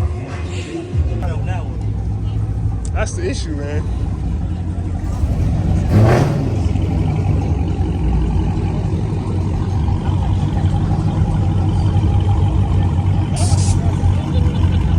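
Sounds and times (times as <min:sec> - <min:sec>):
car engine rumbling: 0:01.2 - 0:14.9.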